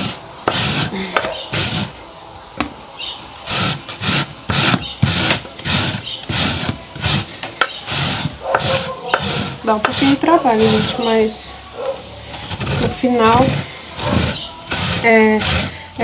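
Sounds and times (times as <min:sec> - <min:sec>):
root being scraped by hand: 0:00.0 - 0:02.0, 0:03.4 - 0:16.0.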